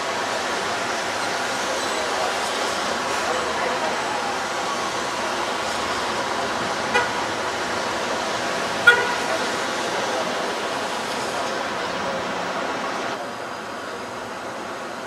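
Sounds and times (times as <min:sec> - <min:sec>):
city background noise: 0:00.0 - 0:15.0.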